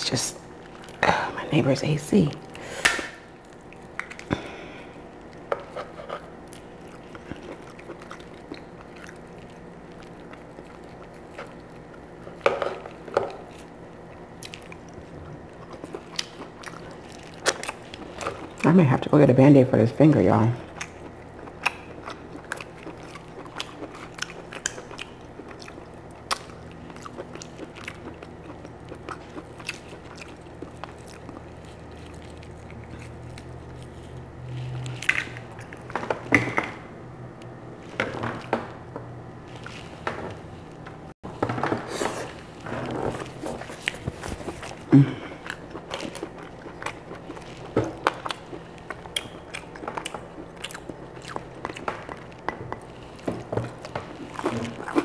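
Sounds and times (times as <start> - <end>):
chewing: 0.6 - 1.2, 2.4 - 18.9, 20.6 - 36.3, 42.0 - 55.0.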